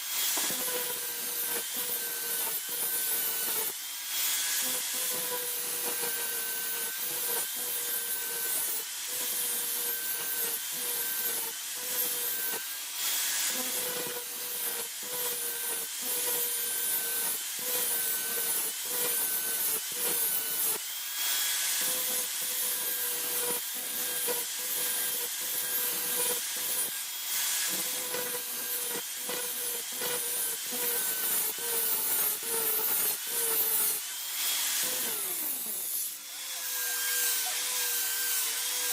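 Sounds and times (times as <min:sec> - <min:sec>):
electric grinding tool: 0:00.0 - 0:38.9.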